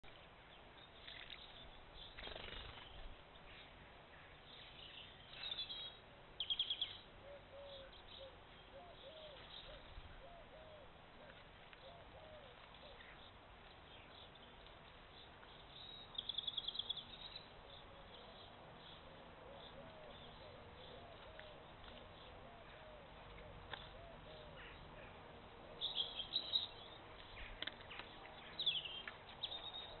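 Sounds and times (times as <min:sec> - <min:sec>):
bird chirping: 0:00.0 - 0:30.0
faint outdoor background noise: 0:00.0 - 0:30.0.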